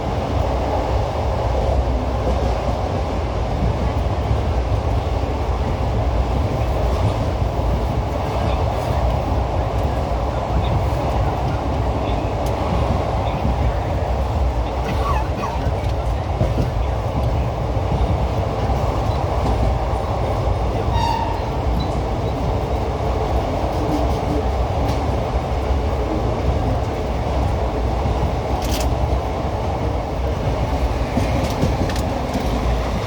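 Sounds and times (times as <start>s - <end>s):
rumble of train wheels on rail: 0.0s - 33.0s.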